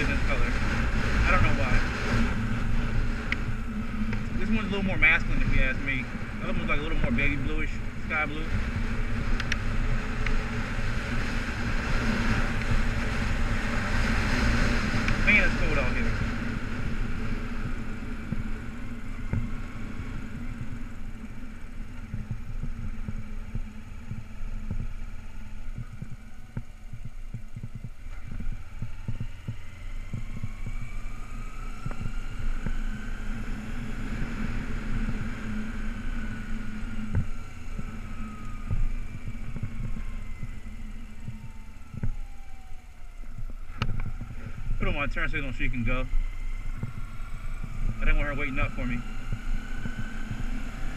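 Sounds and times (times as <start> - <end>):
motorcycle engine running: 0.0 - 50.9
whine rising in pitch: 0.0 - 50.9
wind thumping on microphone: 0.0 - 50.9.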